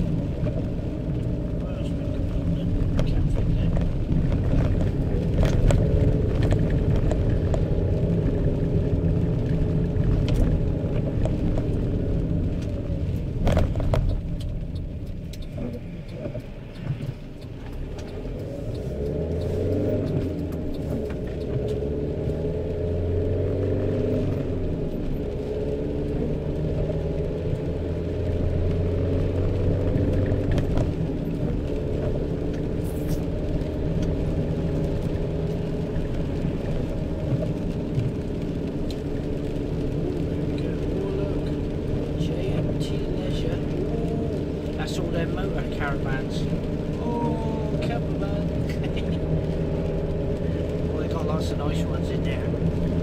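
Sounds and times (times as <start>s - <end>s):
van engine and road rumble: 0.0s - 53.0s.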